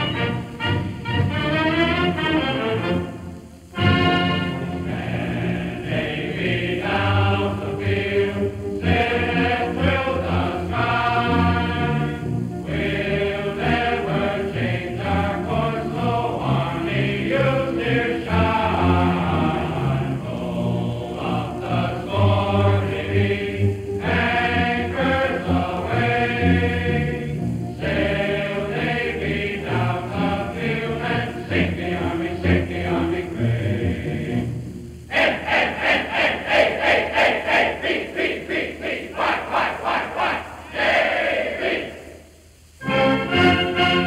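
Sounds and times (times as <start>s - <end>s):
choir chanting: 0.0s - 44.0s.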